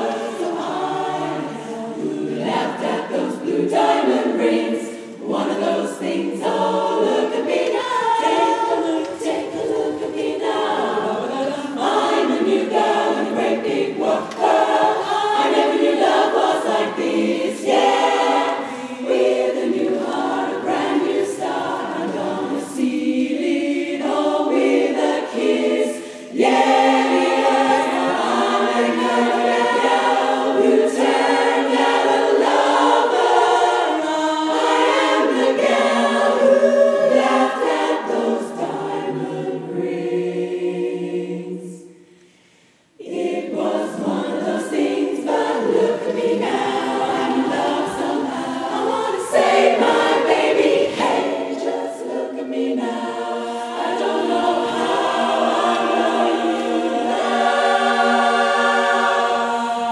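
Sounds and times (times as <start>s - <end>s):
women's chorus singing a cappella: 0.0s - 59.9s.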